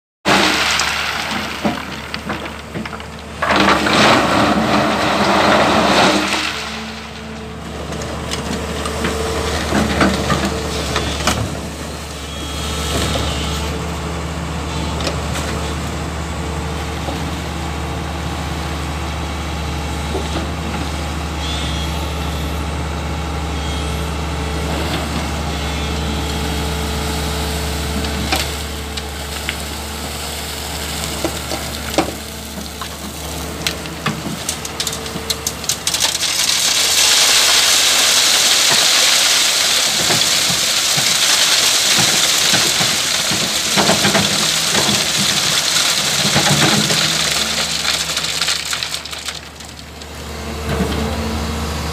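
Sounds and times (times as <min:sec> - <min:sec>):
excavator diesel engine running: 0:00.4 - 0:51.9.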